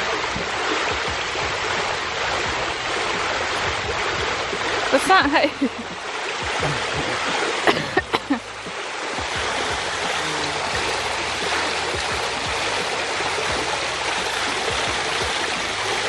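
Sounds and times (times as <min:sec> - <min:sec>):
fountain water splashing into basin: 0:00.0 - 0:16.0.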